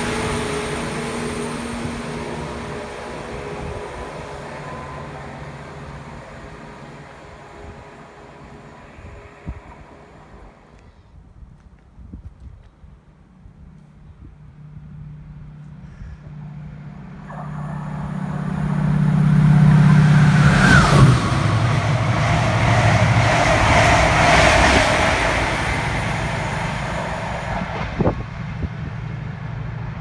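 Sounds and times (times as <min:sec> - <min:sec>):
diesel train engine passing: 0:00.0 - 0:11.5, 0:12.8 - 0:30.0
wheel and rail noise: 0:00.0 - 0:30.0.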